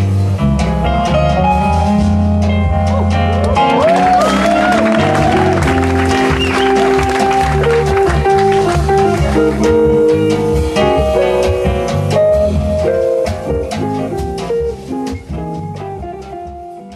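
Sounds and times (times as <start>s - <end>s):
drum cymbals keeping time: 0.0s - 16.9s
electric bass line: 0.0s - 16.9s
electric guitar melody: 0.0s - 16.9s.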